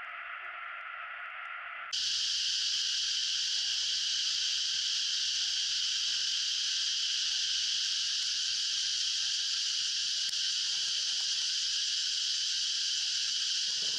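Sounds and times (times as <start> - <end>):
shrill insect chorus: 0.1 - 13.9.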